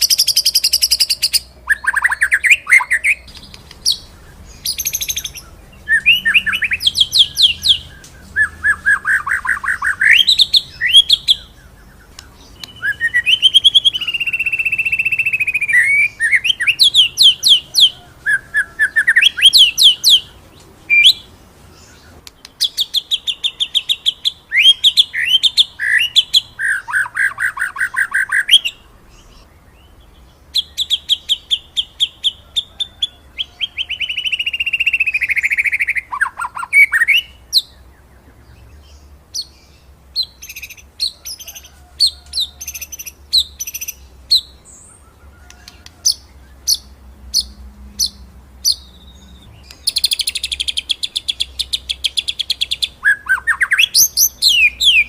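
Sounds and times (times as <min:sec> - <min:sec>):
songbird trills and whistles: 0:00.0 - 0:39.6, 0:40.2 - 0:55.0.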